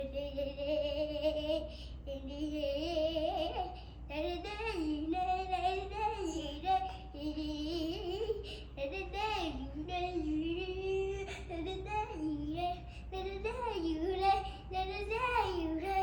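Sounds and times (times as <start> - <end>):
child singing: 0.0 - 16.0.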